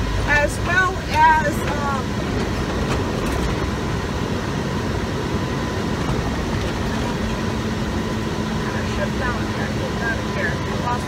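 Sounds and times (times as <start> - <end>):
steady hum: 0.0 - 11.0
truck engine and road rumble: 0.0 - 11.0.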